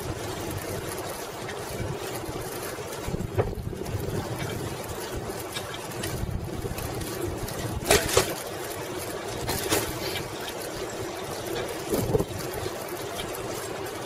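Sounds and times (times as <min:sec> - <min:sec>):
bicycle rattles: 0:00.0 - 0:14.0
wind and tyres rumbling: 0:00.0 - 0:14.0.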